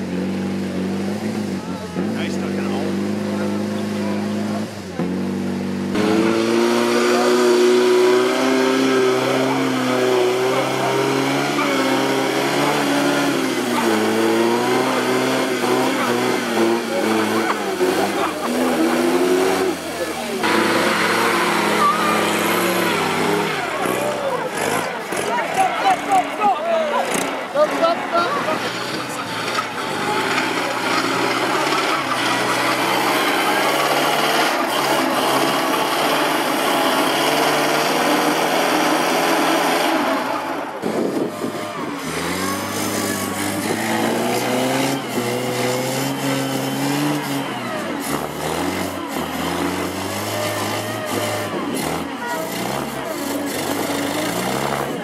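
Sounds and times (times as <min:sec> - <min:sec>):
car engine pulling under load: 0:00.0 - 0:55.0.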